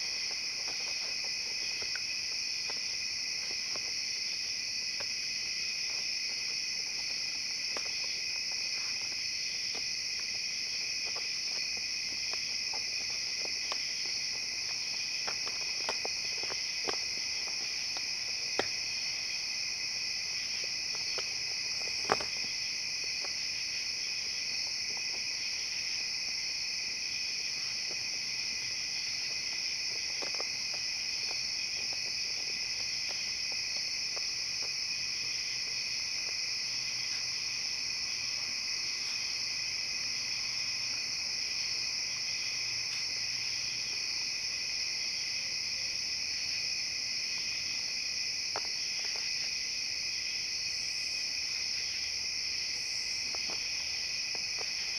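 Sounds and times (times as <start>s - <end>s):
night insects chirping: 0.0s - 54.9s.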